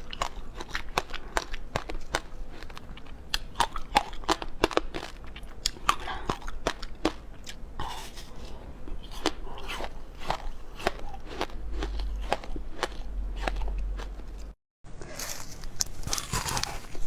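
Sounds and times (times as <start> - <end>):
chewing frozen fruit crunches: 0.0 - 17.0.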